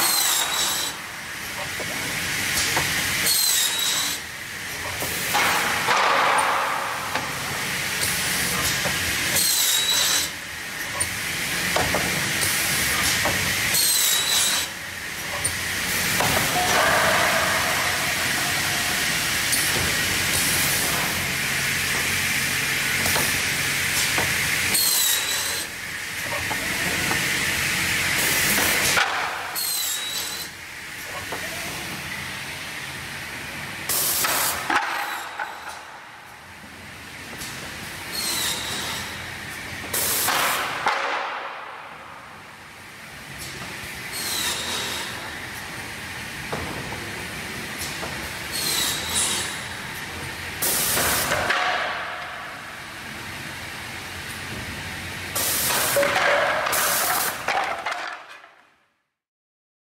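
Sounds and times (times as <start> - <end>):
saw machine running hiss: 0.0 - 40.9, 41.8 - 46.4, 47.1 - 57.5.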